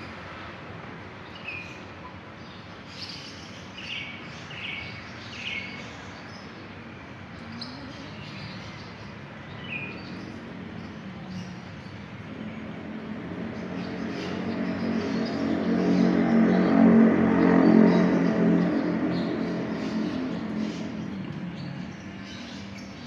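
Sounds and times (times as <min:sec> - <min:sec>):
outdoor background noise: 0:00.0 - 0:23.0
small birds chirping: 0:01.2 - 0:23.0.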